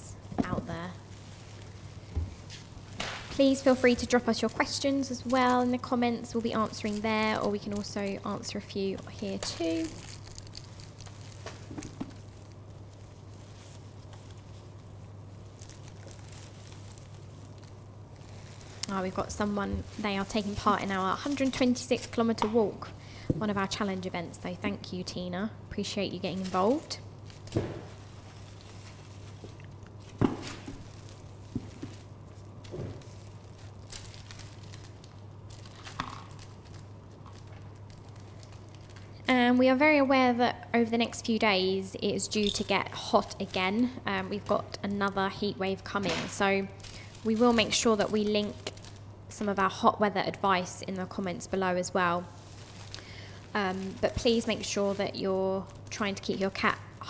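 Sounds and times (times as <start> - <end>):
low room hum: 0.0 - 57.0.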